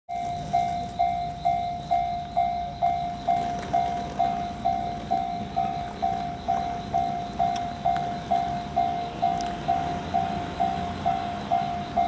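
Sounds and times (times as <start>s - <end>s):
level-crossing warning bell: 0.1s - 12.0s.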